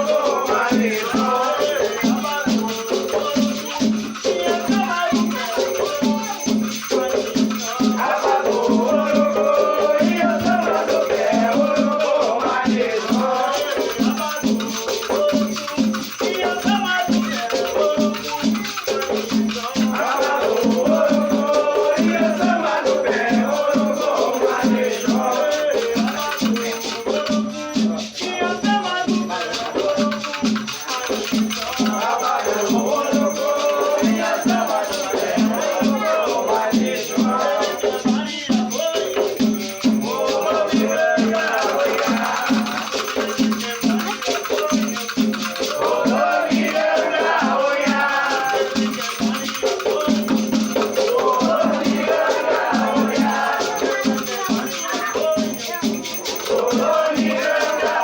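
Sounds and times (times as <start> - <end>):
gourd rattles shaken: 0.0 - 27.3, 29.3 - 38.0, 38.8 - 58.0
drum beats: 0.0 - 58.0
voices singing chants: 0.0 - 58.0.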